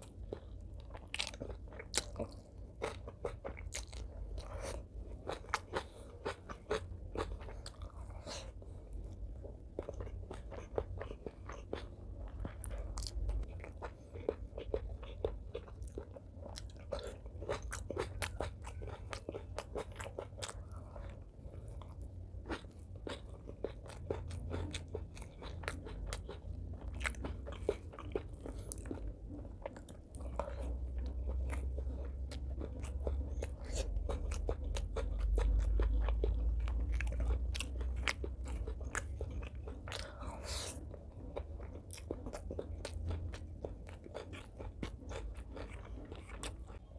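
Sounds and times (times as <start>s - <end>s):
person chewing and biting: 0.0s - 46.9s.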